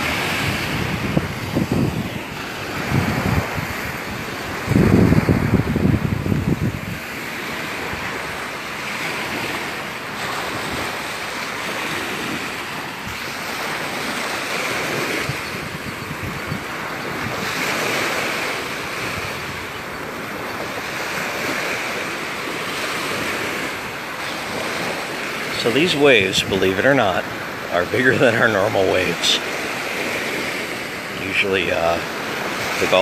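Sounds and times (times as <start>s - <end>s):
surf breaking on sandy beach: 0.0s - 33.0s
wind buffeting microphone: 0.0s - 33.0s.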